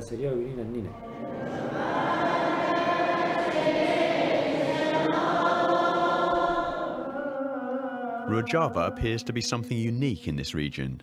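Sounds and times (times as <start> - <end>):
choir singing a liturgical chant: 0.8 - 10.0.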